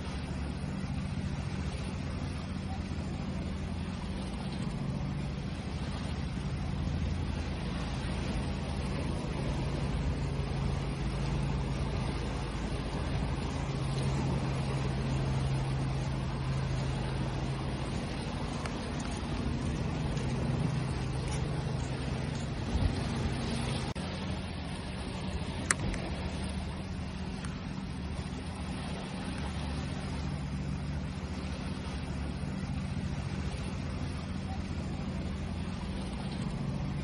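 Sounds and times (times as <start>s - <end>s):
low motor hum: 0.0s - 37.0s
sea waves: 0.0s - 37.0s.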